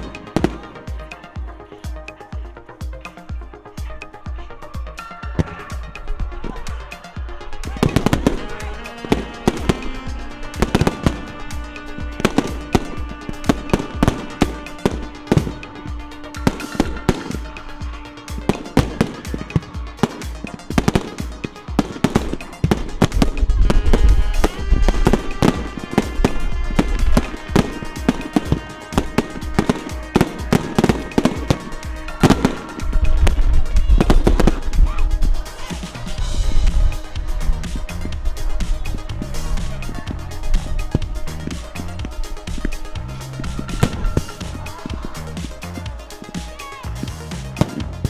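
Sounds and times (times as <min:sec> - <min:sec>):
fireworks bursting: 0:00.0 - 0:04.3, 0:05.0 - 0:48.0
loud music: 0:00.0 - 0:48.0.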